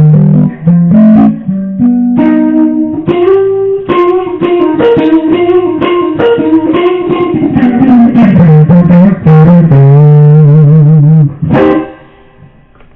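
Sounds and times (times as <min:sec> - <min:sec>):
solo guitar picking: 0:00.0 - 0:12.1.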